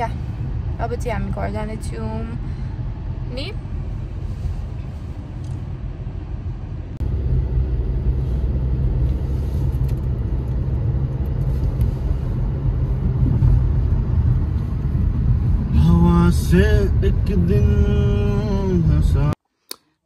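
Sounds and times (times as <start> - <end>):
car cabin road rumble: 0.0 - 19.4.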